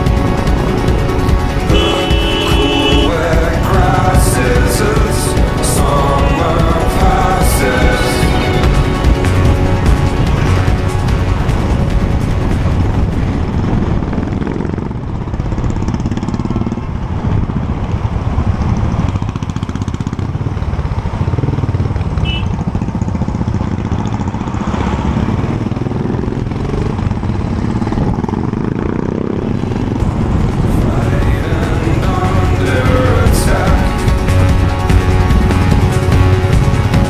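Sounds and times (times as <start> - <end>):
wind rushing: 0.0 - 21.4, 23.5 - 37.0
motorcycle engine running: 0.0 - 37.0.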